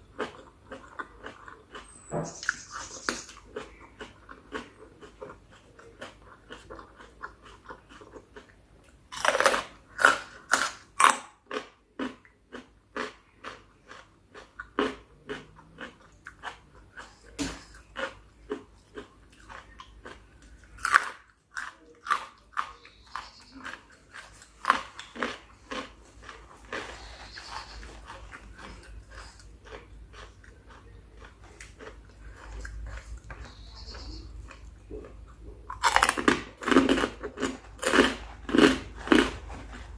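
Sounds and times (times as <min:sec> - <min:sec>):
close-miked wet chewing: 0:00.0 - 0:39.9
crunching of cartilage: 0:00.0 - 0:39.9.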